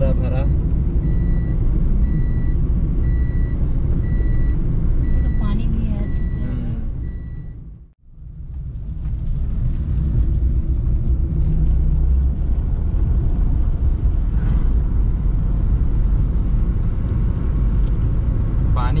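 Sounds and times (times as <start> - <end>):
road and engine rumble inside car: 0.0 - 19.0.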